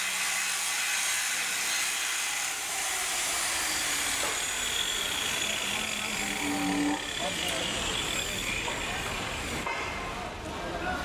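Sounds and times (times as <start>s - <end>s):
angle grinder grinding metal: 0.0s - 9.6s.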